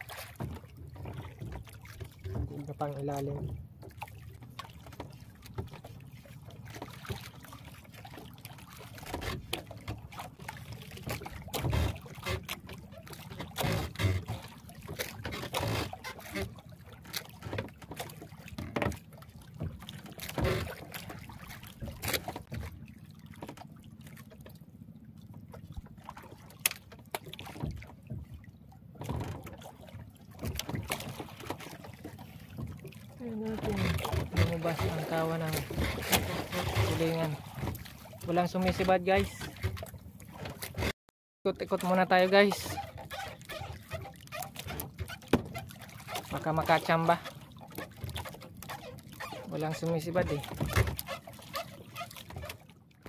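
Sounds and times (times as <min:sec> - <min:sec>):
water splashing against boat hull: 0:00.0 - 0:53.0.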